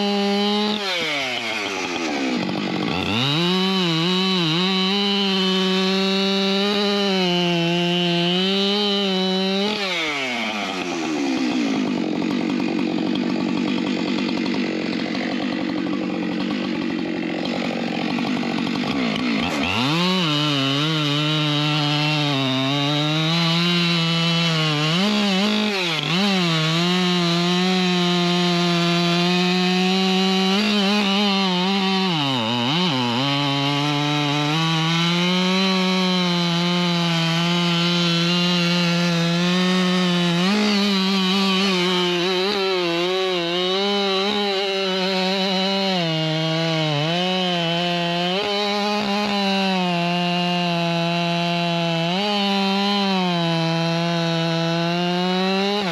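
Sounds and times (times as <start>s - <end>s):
chainsaw cutting at full throttle: 0.0s - 55.9s.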